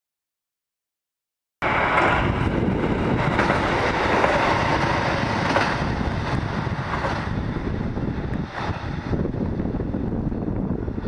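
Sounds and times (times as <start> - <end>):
diesel railcar passing: 1.6 - 11.0.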